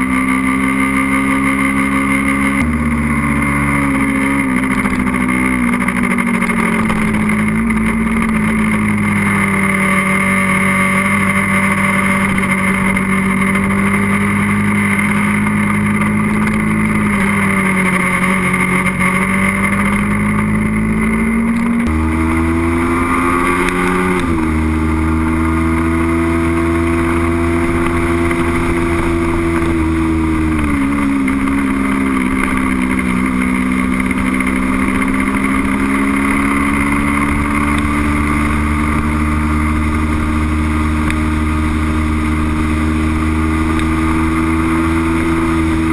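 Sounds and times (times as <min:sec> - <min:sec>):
motorcycle engine running: 0:00.0 - 0:45.9
rush of riding at speed: 0:00.0 - 0:45.9.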